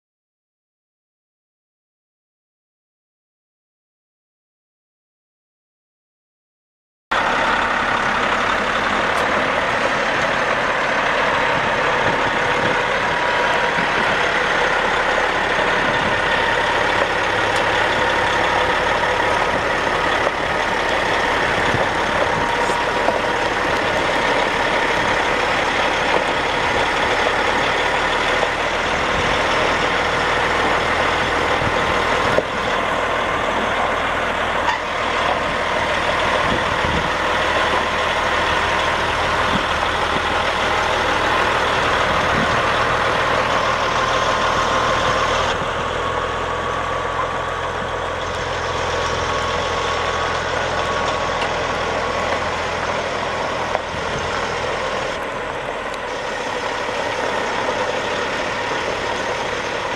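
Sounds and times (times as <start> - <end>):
diesel truck engine idling: 7.1 - 59.9.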